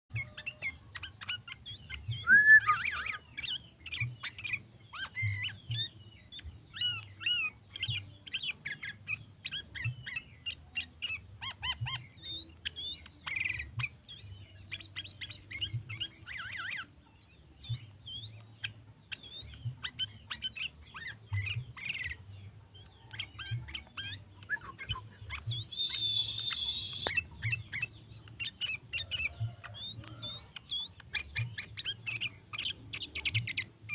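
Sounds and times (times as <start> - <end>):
bird chirping: 0.1 - 33.9.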